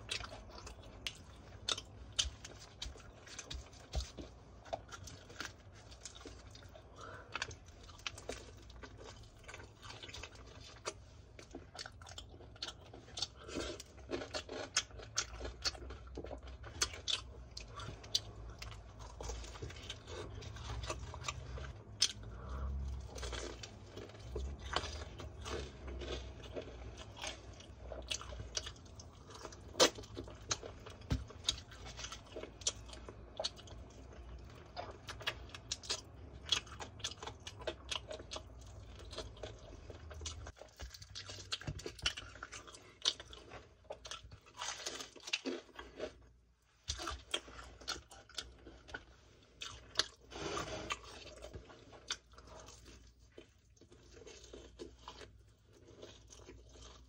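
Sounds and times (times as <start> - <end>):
crunching fried chicken: 0.0 - 57.0.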